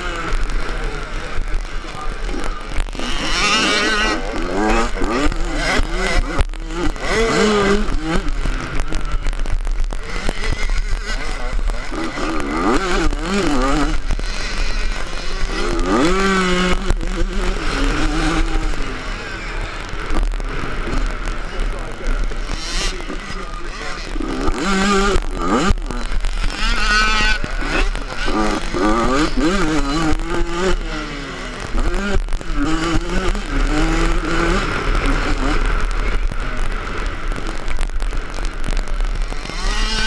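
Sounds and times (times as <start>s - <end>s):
two-stroke motorbike engine revving: 0.0s - 40.0s.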